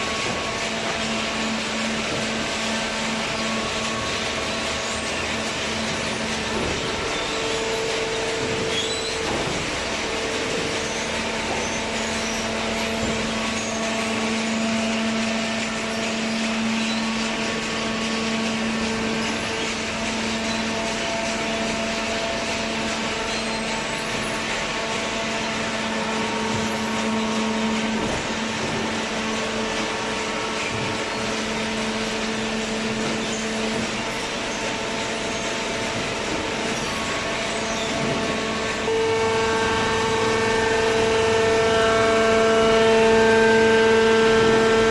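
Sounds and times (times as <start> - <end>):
baler motor and pump humming: 0.0 - 44.9.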